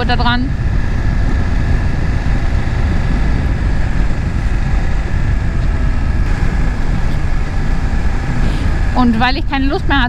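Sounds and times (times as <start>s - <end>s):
motorcycle engine cruising: 0.0s - 10.0s
wind rush on microphone: 0.0s - 10.0s.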